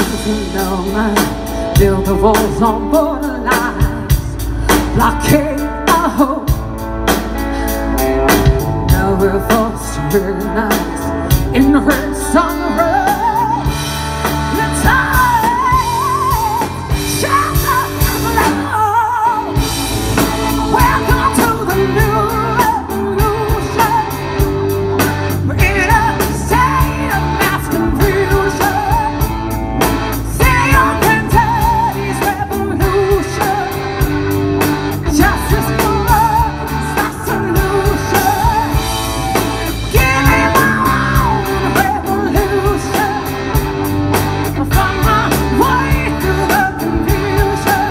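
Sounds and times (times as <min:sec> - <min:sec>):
woman singing: 0:00.0 - 0:24.7, 0:25.3 - 0:29.5, 0:30.1 - 0:34.3, 0:34.9 - 0:47.9
bass guitar: 0:00.0 - 0:47.9
drum kit: 0:00.0 - 0:47.9
electric guitars: 0:00.0 - 0:47.9.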